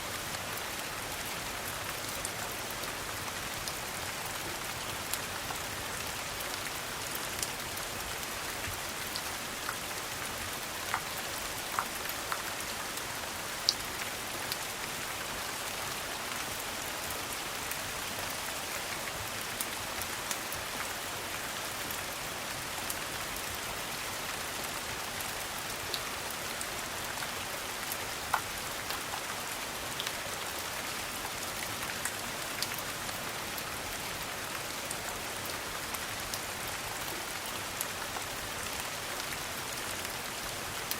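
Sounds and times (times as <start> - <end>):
rain patter: 0.0 - 40.9.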